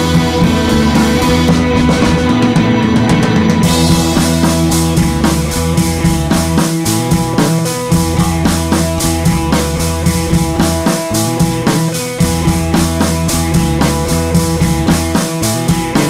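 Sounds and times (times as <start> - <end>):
rock music with driving drums: 0.0 - 16.0.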